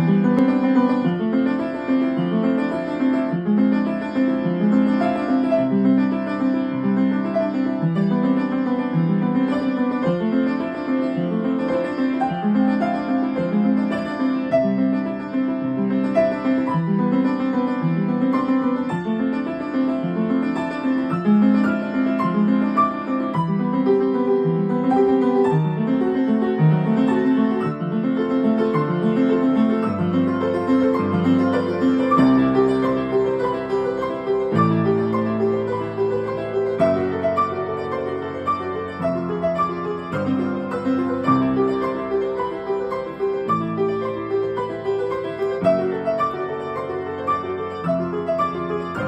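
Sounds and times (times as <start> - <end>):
piano played four hands: 0.0 - 49.0.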